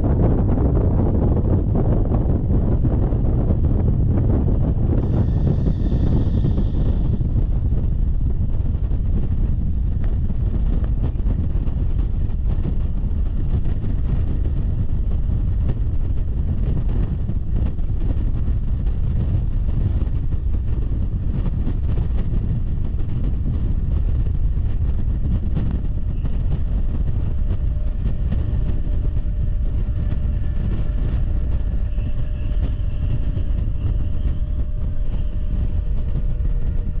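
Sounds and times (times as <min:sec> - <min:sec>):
faint whining tones: 0:00.0 - 0:37.0
train wheels rumbling on rails: 0:00.0 - 0:37.0
wind noise: 0:00.0 - 0:37.0.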